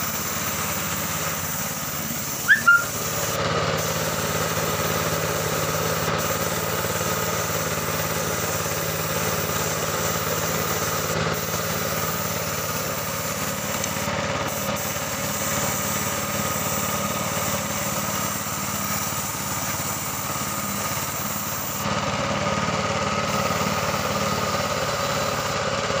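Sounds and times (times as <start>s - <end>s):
air compressor humming: 0.0s - 26.0s
paint spray gun hissing: 0.0s - 26.0s.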